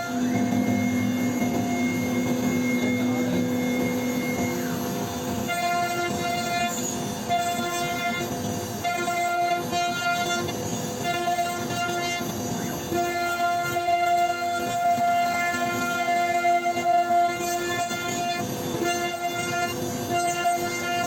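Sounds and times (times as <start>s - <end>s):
machine motor tones chopping: 0.0s - 21.0s
router bit cutting wood: 0.0s - 21.0s
router spindle whine: 0.0s - 21.0s.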